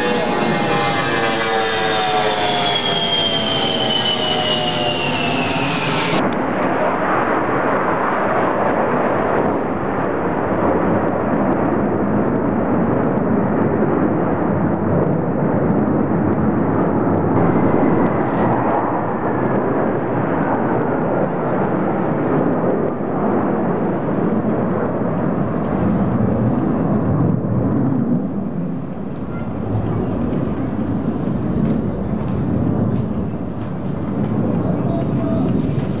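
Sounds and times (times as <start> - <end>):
jet engine whine: 0.0 - 36.0
jet fighters roaring overhead: 0.0 - 36.0.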